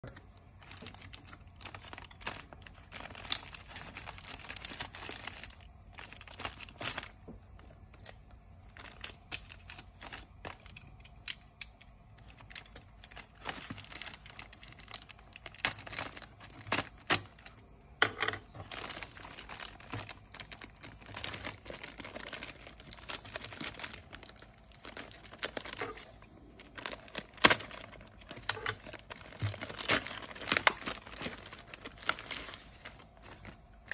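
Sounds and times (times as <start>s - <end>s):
plastic and paper crinkling: 0.0s - 33.9s.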